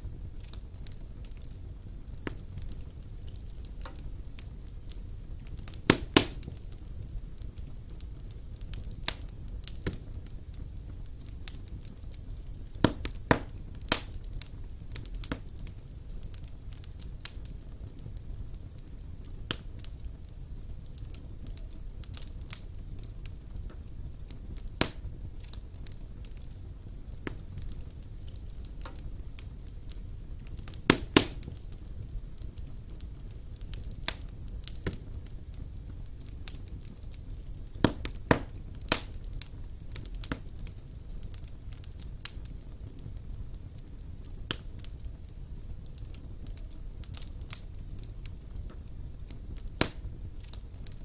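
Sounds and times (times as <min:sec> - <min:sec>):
burning logs crackling and popping: 0:00.0 - 0:51.0
fire rumbling: 0:00.0 - 0:51.0.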